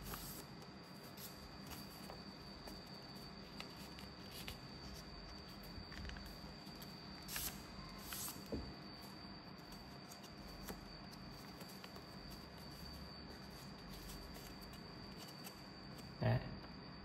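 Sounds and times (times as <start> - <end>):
paper crinkling: 0.0 - 8.4, 9.6 - 16.1
paper rustling: 0.0 - 8.6, 9.6 - 16.0.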